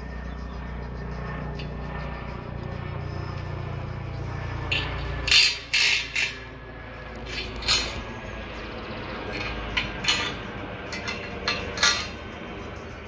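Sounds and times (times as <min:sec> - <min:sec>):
distant helicopter rumble: 0:00.0 - 0:13.0.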